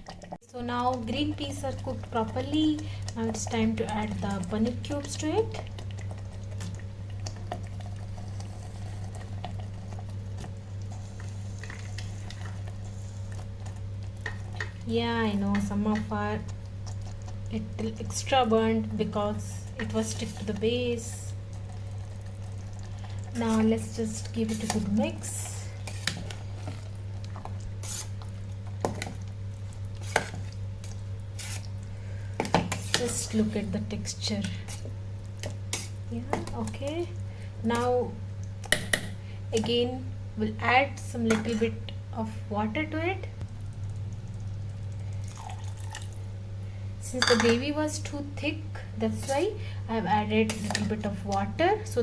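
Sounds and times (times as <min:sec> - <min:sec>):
gravy simmering with pops: 0:00.0 - 0:42.1, 0:43.4 - 0:46.8
kettle humming: 0:00.0 - 0:52.0.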